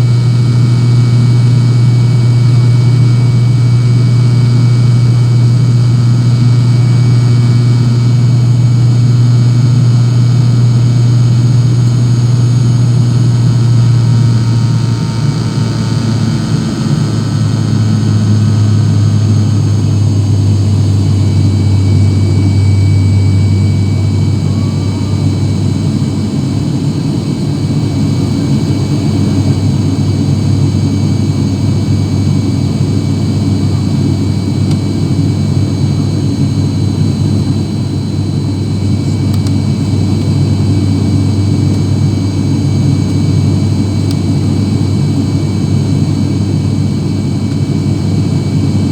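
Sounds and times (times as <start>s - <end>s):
propeller plane cabin drone: 0.0s - 48.9s.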